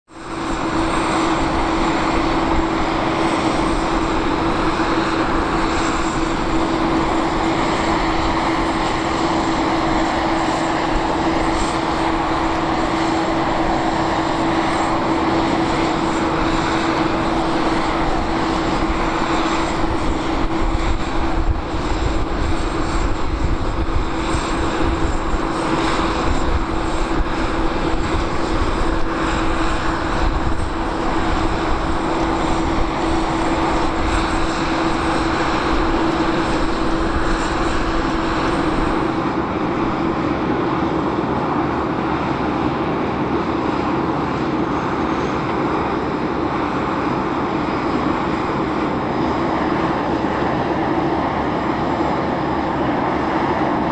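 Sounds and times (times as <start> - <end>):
airliner engine running: 0.0 - 53.9.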